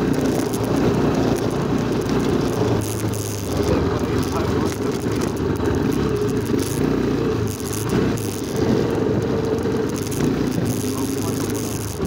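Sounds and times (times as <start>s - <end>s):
rattling over rough ground: 0.0s - 12.0s
vehicle engine running: 0.0s - 12.0s.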